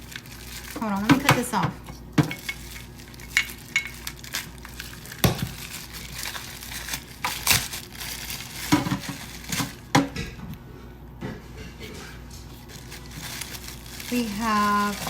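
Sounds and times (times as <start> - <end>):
packaging crinkling and crackling: 0.0 - 10.0, 12.4 - 15.0.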